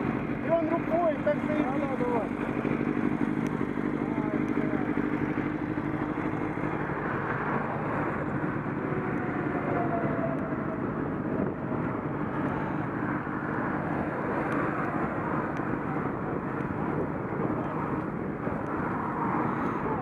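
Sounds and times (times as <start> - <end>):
motorcycle engine running: 0.0 - 20.0
tyre noise on road: 0.0 - 20.0.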